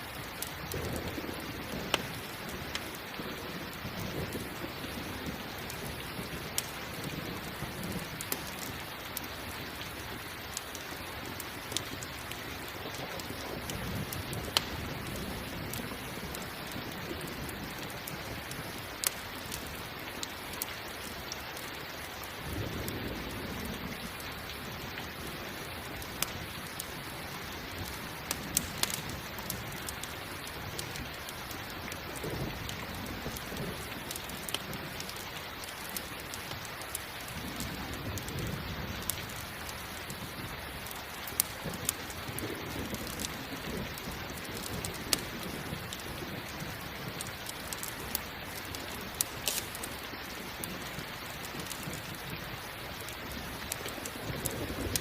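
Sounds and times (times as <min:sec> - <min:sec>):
campfire crackling: 0:00.0 - 0:55.0
steady rain: 0:00.0 - 0:55.0
thunder rumbling: 0:00.5 - 0:08.8, 0:12.6 - 0:19.8, 0:22.4 - 0:35.2, 0:37.2 - 0:49.3, 0:49.9 - 0:55.0.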